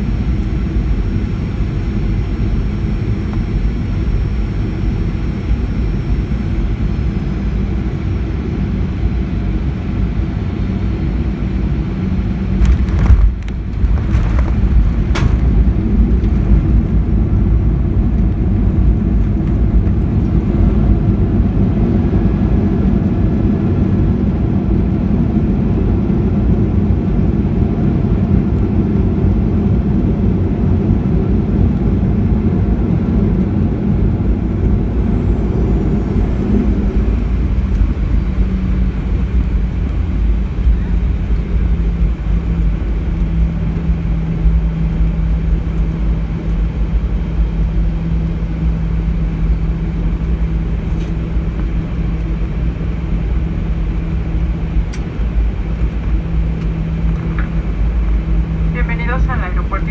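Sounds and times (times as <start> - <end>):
jet engine cabin rumble: 0.0 - 59.9.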